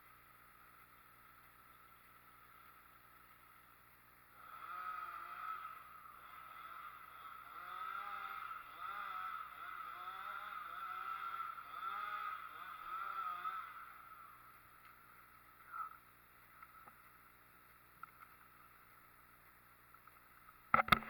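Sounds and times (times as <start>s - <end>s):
engine running with varying pitch: 0.0s - 21.0s.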